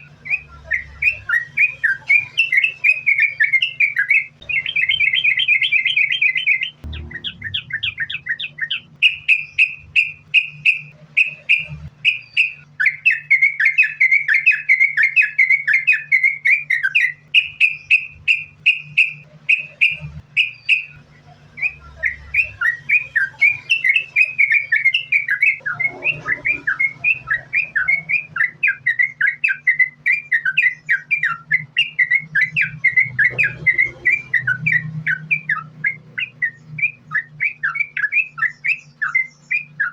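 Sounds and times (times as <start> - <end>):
bird singing rapid chirped notes: 0.0 - 39.9
faint low hum: 0.0 - 39.9.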